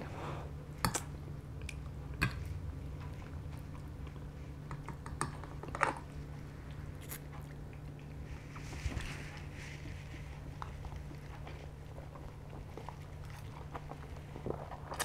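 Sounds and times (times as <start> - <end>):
steady low hum: 0.0 - 15.0
chewing pasta: 0.8 - 15.0.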